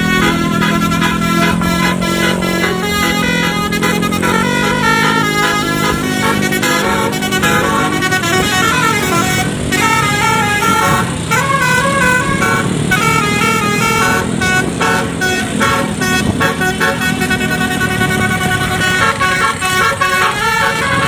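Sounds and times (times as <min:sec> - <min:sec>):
musical air horn playing melody: 0:00.0 - 0:21.0.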